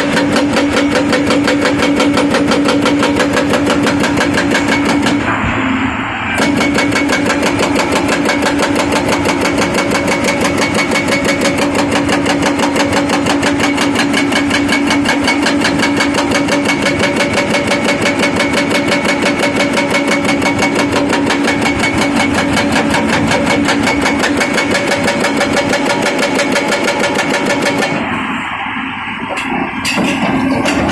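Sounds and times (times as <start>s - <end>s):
hydraulic breaker hammering: 0.0s - 5.6s, 6.4s - 28.1s, 29.3s - 30.9s
excavator engine humming: 0.0s - 30.9s.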